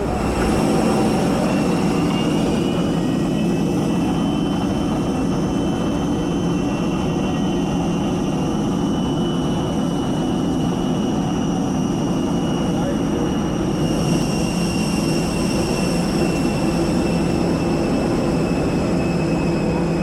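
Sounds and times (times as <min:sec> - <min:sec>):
high whining tones: 0:00.0 - 0:20.0
jet aircraft rumble: 0:00.0 - 0:20.0.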